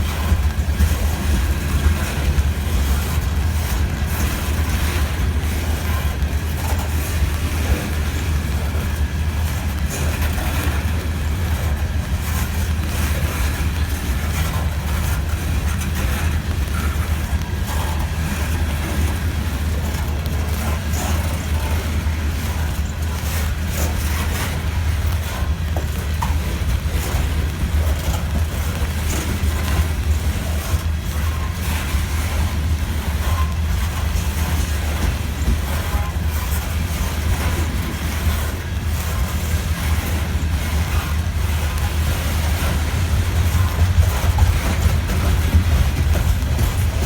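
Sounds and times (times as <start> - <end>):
freight train rumbling on rails: 0.0 - 47.0.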